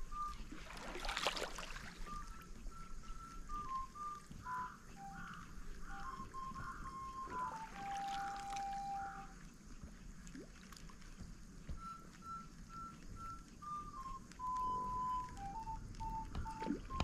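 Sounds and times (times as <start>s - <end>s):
whistle-like tune: 0.0s - 9.4s, 11.6s - 17.0s.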